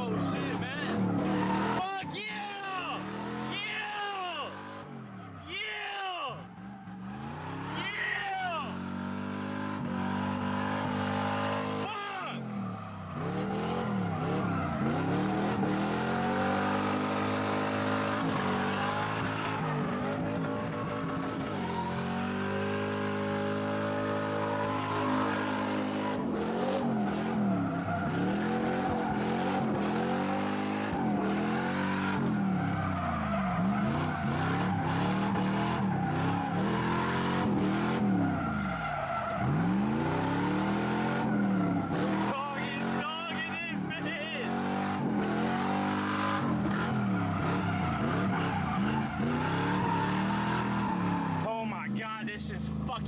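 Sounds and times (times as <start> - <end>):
car engine revving hard: 0.0 - 1.9, 2.7 - 5.0, 6.9 - 51.4.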